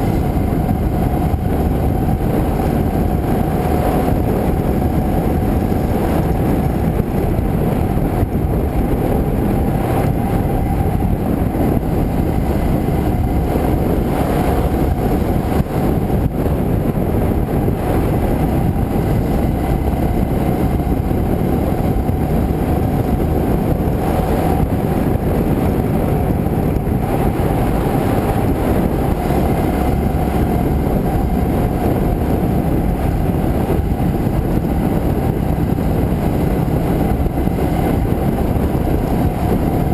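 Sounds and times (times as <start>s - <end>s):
motorcycle riding: 0.0s - 39.9s
wind noise: 0.0s - 39.9s.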